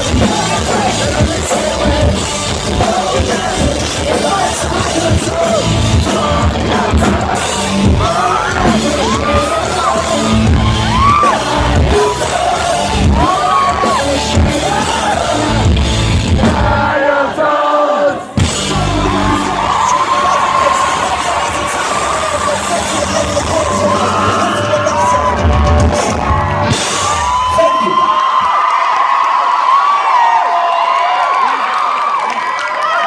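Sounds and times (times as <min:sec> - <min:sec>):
person singing: 0:00.0 - 0:26.6
live pop-punk band: 0:00.0 - 0:27.6
crowd yelling: 0:00.0 - 0:33.0.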